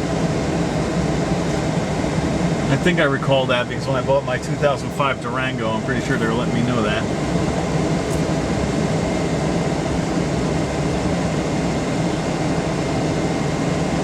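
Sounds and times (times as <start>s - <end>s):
truck engine running low hum: 0.0s - 14.0s.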